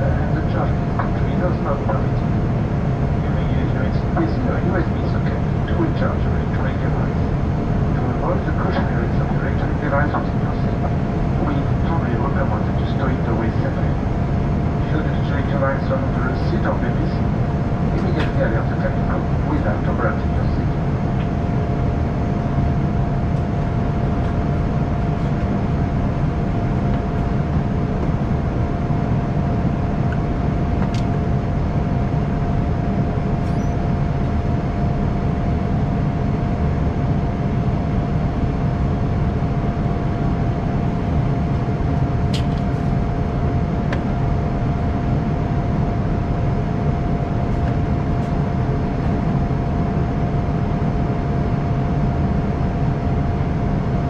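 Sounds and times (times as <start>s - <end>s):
jet engines rumbling: 0.0s - 54.0s
steady hum tone: 0.0s - 54.0s.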